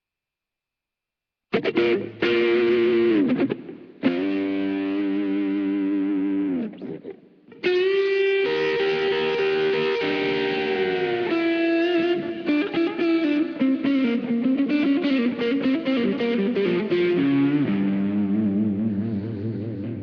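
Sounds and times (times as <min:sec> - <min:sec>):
electric guitar playing: 0:01.5 - 0:20.0.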